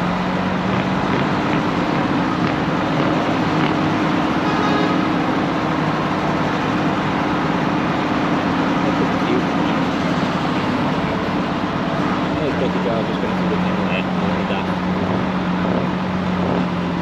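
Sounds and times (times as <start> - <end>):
truck diesel engine droning: 0.0 - 17.0.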